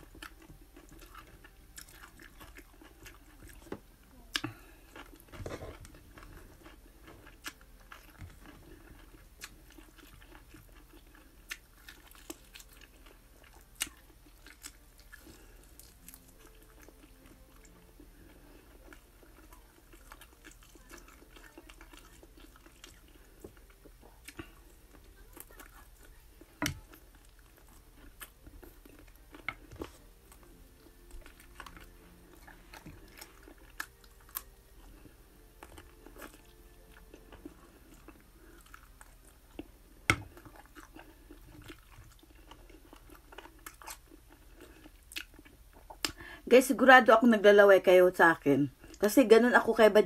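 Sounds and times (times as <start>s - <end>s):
chewing with small crunches: 0.0s - 46.4s, 48.7s - 49.9s.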